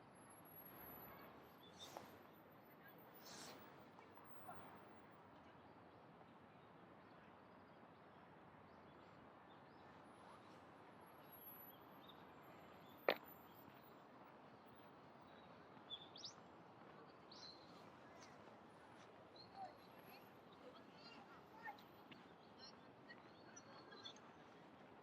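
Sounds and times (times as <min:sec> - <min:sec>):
faint city background noise: 0:00.0 - 0:25.0.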